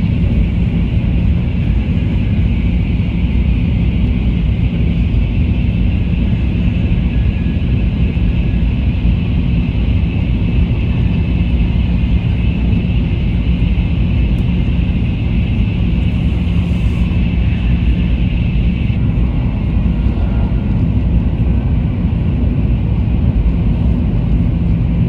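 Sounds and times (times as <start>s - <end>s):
high speed train rumbling: 0.0s - 25.0s.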